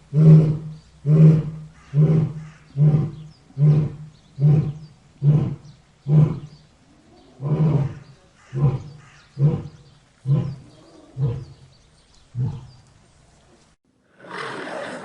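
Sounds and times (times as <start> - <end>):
lion roaring in deep grunts: 0.1 - 11.7, 12.3 - 12.8.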